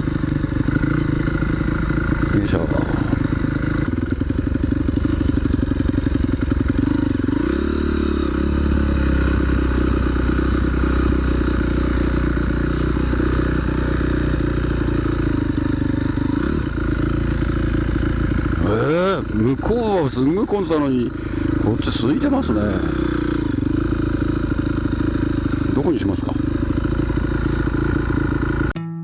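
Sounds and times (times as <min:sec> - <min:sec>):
motorcycle engine revving: 0:00.0 - 0:28.8.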